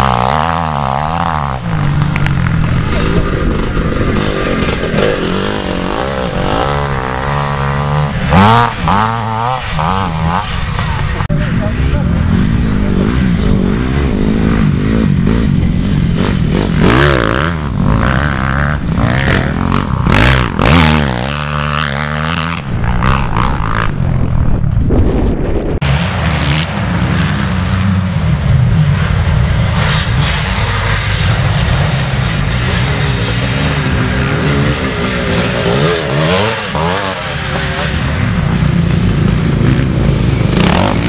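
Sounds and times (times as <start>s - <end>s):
motocross bike engines revving: 0.0s - 24.8s, 25.8s - 41.0s.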